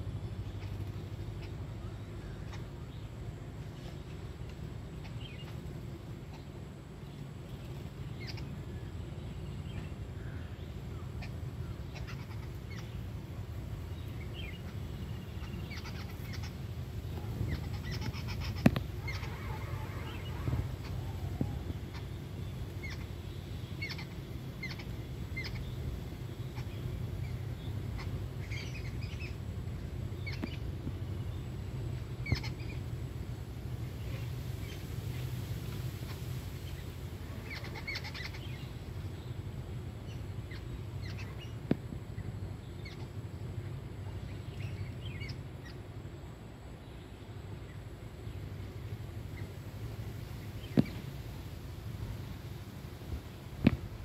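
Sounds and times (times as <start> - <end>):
birds chirping: 0.0 - 54.0
steady low hum: 0.0 - 54.0.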